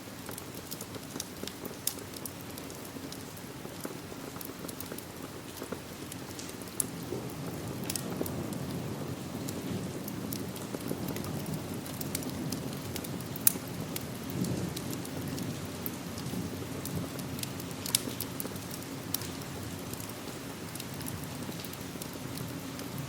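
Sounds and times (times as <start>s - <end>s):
steady rain: 0.0s - 23.0s
wood fire crackling and popping: 0.0s - 23.0s.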